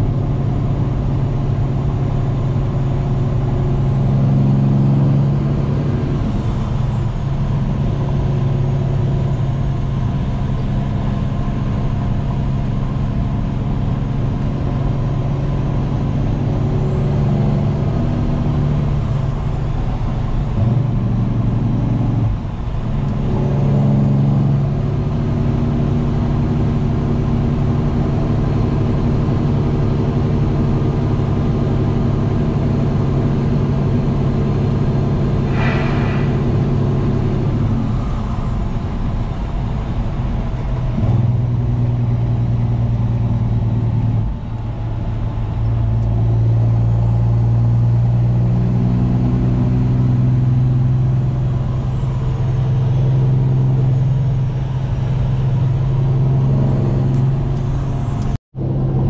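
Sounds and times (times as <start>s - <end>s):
diesel engine drone: 0.0s - 59.0s.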